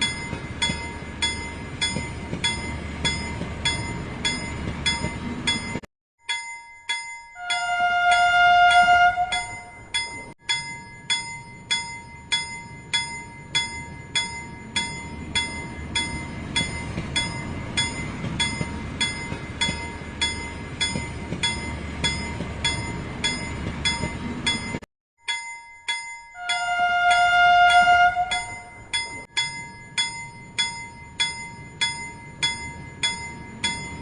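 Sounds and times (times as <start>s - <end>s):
bell-like background music: 0.0s - 34.0s.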